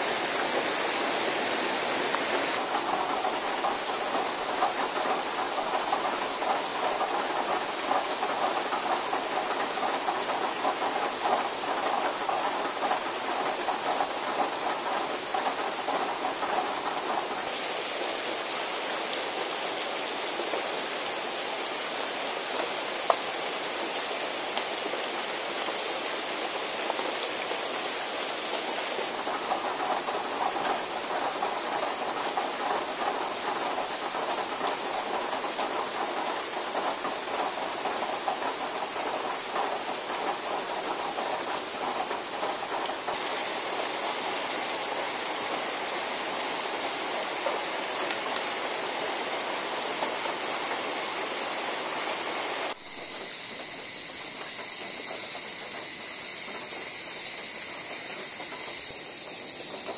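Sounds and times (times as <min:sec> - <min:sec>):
drizzle on leaves: 0:00.0 - 0:59.9.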